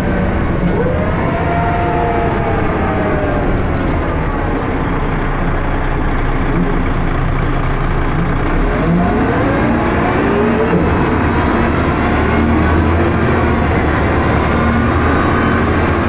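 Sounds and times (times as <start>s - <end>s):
bus diesel engine: 0.0s - 16.0s.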